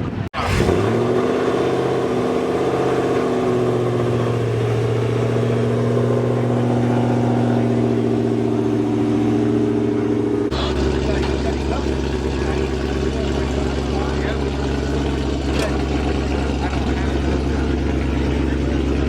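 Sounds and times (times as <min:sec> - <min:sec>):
car engine idling: 0:00.7 - 0:19.0.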